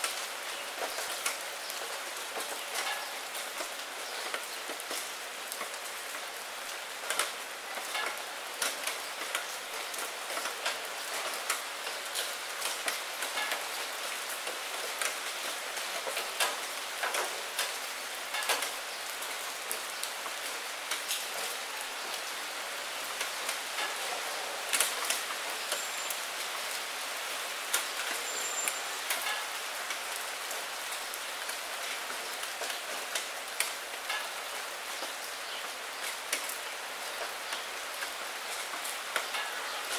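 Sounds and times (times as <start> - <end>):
close raindrop hits: 0.0 - 22.3, 23.1 - 39.9
rain falling on leaves and puddles: 0.0 - 39.9.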